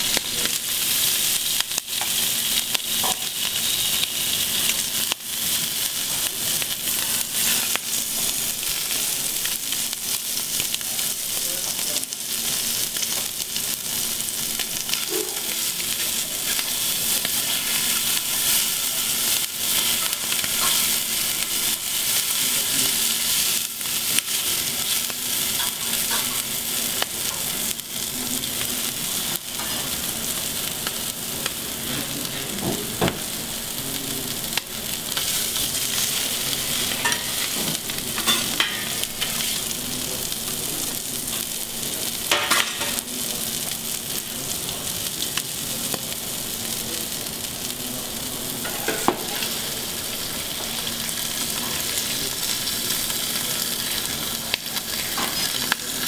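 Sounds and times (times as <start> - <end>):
seafood sizzling on griddle: 0.0 - 56.0.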